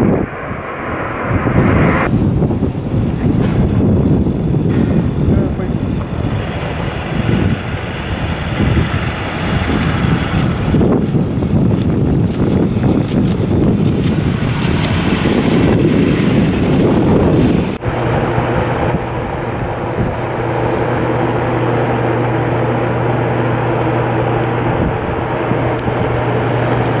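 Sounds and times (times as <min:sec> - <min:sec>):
constant low hum: 0:00.0 - 0:27.0
wind buffeting microphone: 0:00.0 - 0:27.0
wind hiss: 0:00.0 - 0:27.0.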